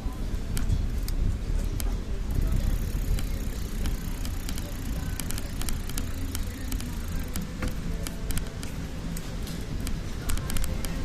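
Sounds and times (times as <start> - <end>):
wind and road rumble: 0.0 - 11.0
bicycle rattling clicks: 0.5 - 11.0.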